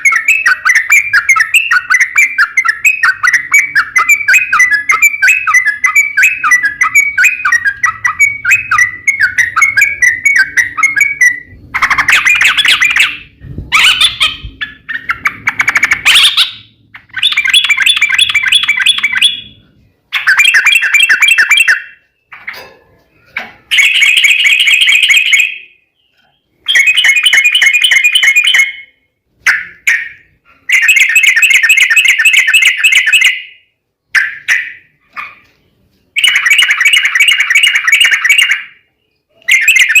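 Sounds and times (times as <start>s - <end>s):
bird chattering song: 0.0s - 40.0s.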